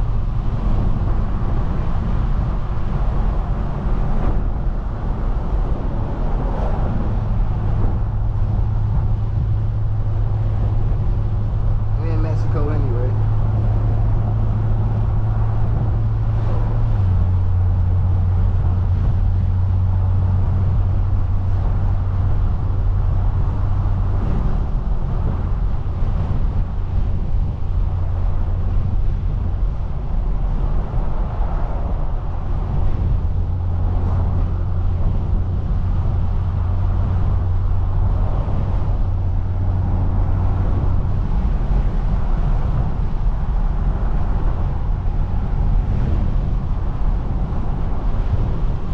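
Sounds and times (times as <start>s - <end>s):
car engine droning at cruise: 0.0s - 48.9s.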